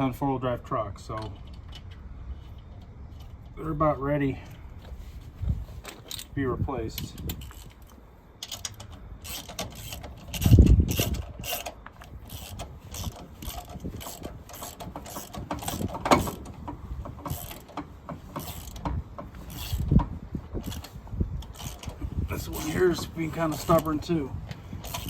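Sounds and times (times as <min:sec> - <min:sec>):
metal tools clanking on lug nuts: 0:01.0 - 0:05.0, 0:05.7 - 0:25.0.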